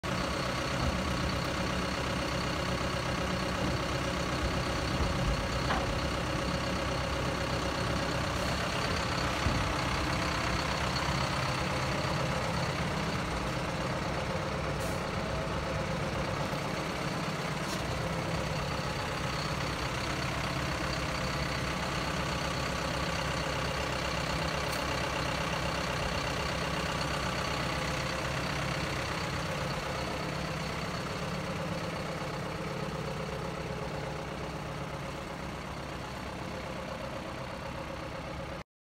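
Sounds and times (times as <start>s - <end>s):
diesel engine idling: 0.0s - 38.6s.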